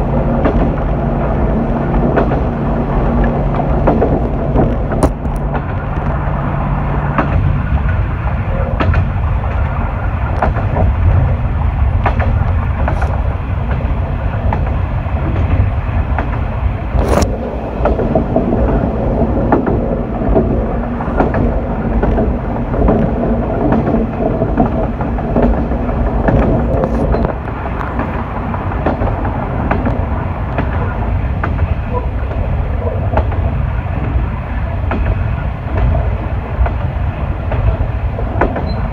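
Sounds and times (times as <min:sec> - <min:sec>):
railcar engine and wheel rumble: 0:00.0 - 0:38.9
wheels clicking over rail joints: 0:00.0 - 0:38.9.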